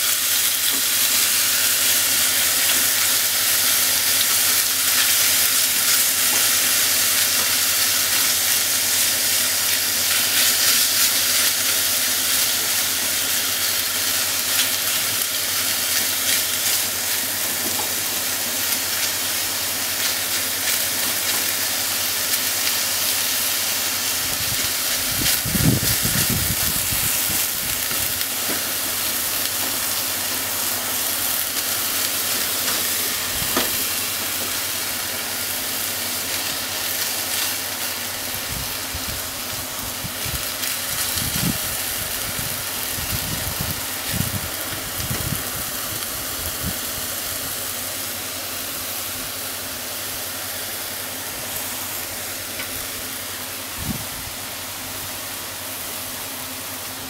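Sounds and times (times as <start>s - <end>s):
meat sizzling in a frying pan: 0.0s - 57.0s.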